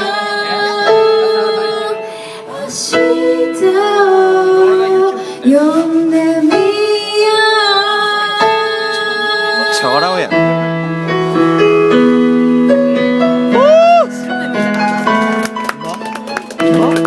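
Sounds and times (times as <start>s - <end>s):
light instrumental accompaniment: 0.0s - 17.0s.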